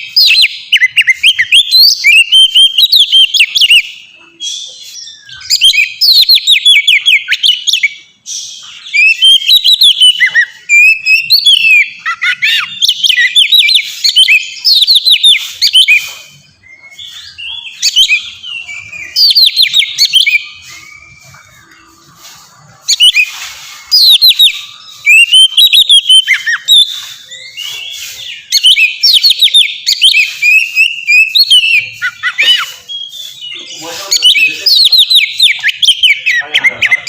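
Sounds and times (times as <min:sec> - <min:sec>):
magpie-robin singing: 0:00.0 - 0:37.0.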